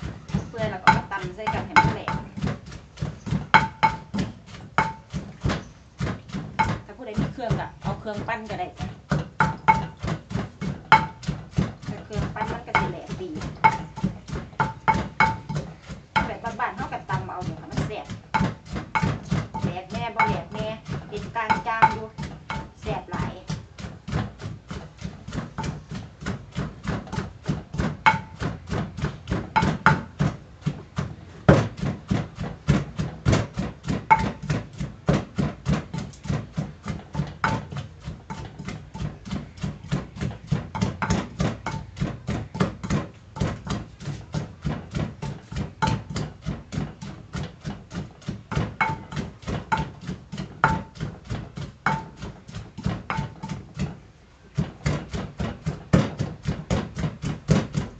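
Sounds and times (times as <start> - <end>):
pestle pounding in mortar: 0.0 - 57.9.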